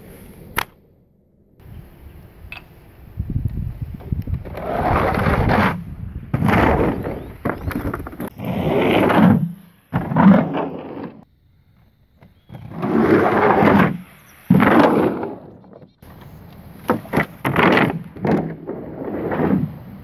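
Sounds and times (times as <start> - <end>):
skate wheels rolling on wooden ramps: 3.6 - 20.0.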